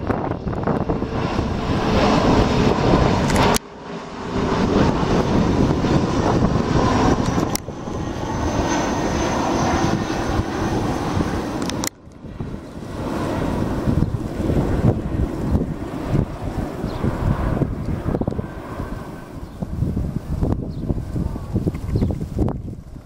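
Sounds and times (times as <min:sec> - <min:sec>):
airliner engine rush: 0:00.0 - 0:23.0.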